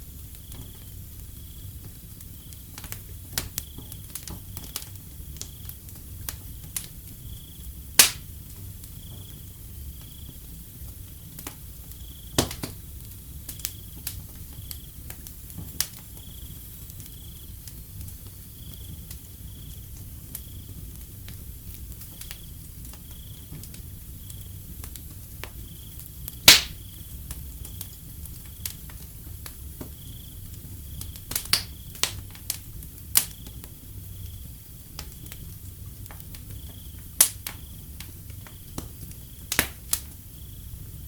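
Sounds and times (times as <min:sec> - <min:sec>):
wood fire crackling and popping: 0:00.0 - 0:41.0
cricket chirping: 0:00.2 - 0:05.9, 0:06.5 - 0:07.9, 0:08.8 - 0:21.1, 0:21.7 - 0:32.6, 0:33.2 - 0:41.0.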